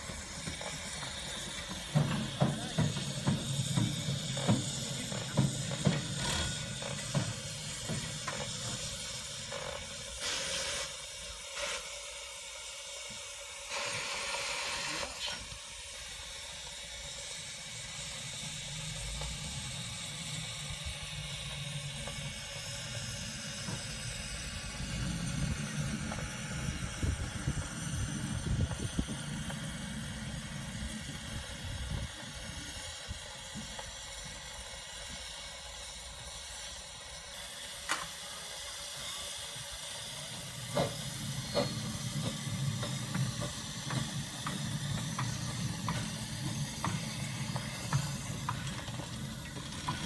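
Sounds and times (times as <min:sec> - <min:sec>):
steam locomotive hissing: 0:00.0 - 0:50.0.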